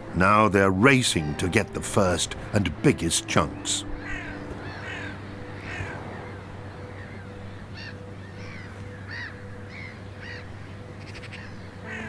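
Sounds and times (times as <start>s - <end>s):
birds harsh calls: 0.2s - 12.0s.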